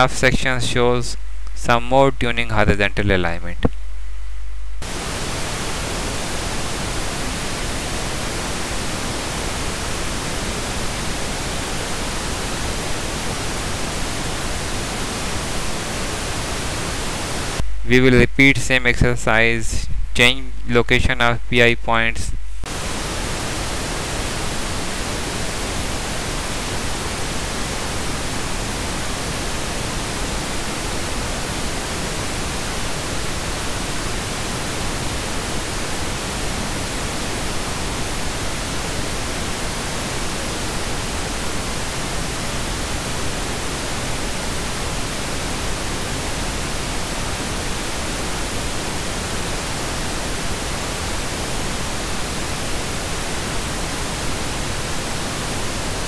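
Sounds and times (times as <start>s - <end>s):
recording noise hiss: 0.0s - 56.0s.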